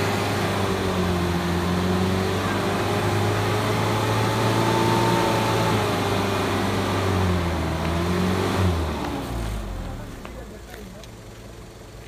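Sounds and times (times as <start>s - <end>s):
truck engine labouring: 0.0s - 12.0s.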